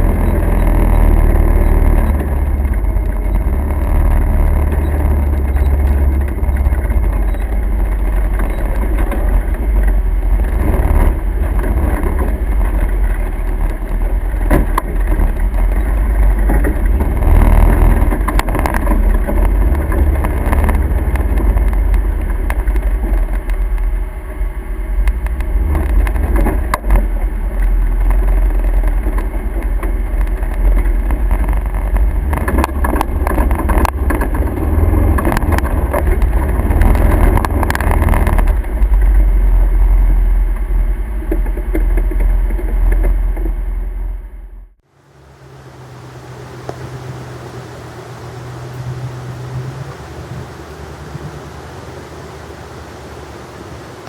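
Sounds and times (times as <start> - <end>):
motor vehicle engine rumbling: 0.0 - 54.0.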